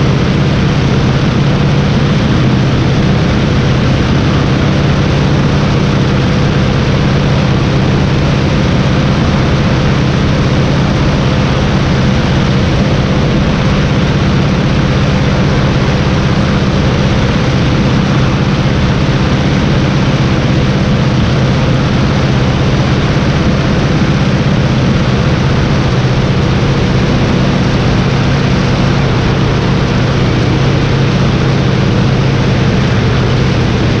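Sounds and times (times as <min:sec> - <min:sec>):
biplane radial engine running: 0:00.0 - 0:34.0.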